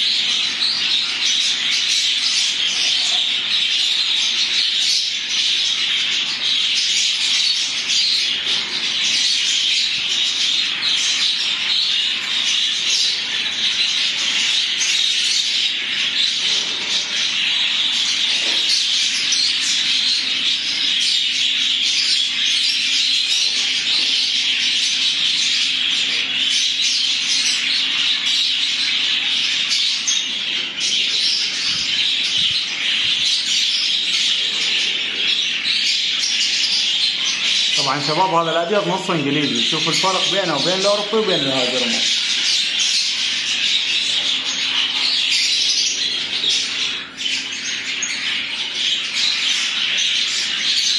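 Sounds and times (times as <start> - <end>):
budgerigars chirping: 0.0 - 50.9.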